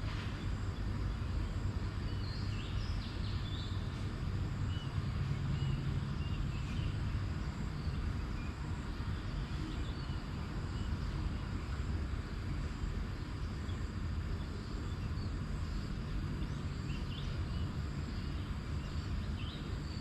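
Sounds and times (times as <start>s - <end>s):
low rumble and hiss: 0.0s - 20.0s.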